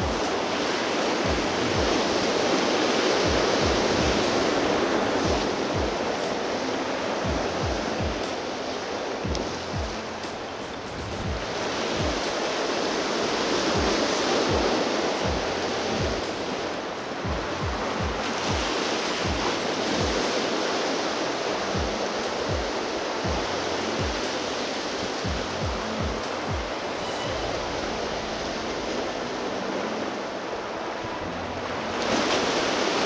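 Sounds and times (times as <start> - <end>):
music with low beat: 0.0 - 33.0
surf breaking over rocks: 0.0 - 33.0.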